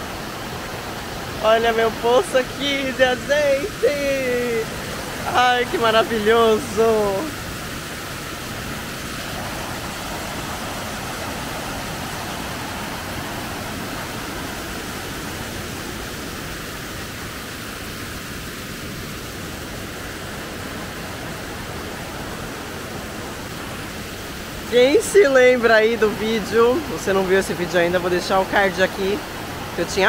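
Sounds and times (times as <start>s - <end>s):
waterfall rushing into pool: 0.0s - 30.0s.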